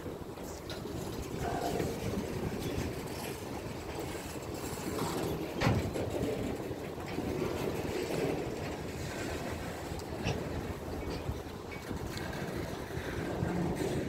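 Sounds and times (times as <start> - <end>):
steel wheels rumbling on rail: 0.0 - 14.0.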